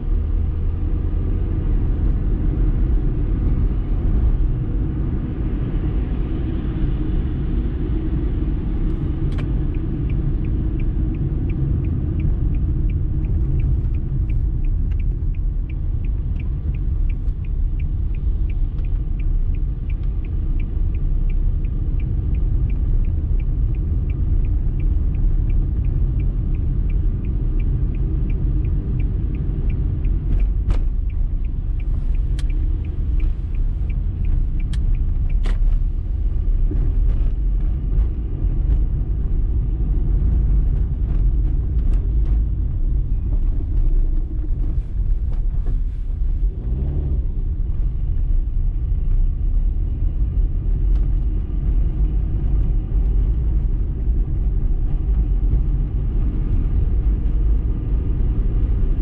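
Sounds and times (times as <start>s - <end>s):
car interior road rumble: 0.0s - 59.0s
light regular ticking: 8.8s - 59.0s.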